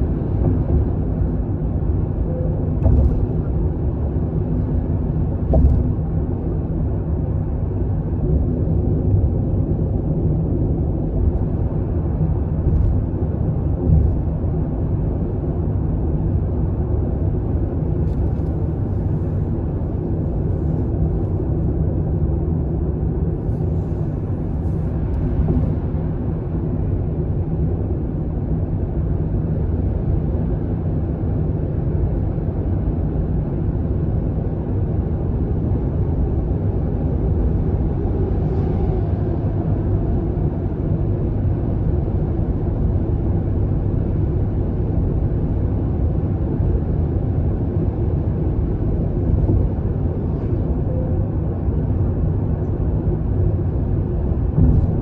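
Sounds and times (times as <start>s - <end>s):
car engine hum: 0.0s - 55.0s
road and tyre noise in car: 0.0s - 55.0s.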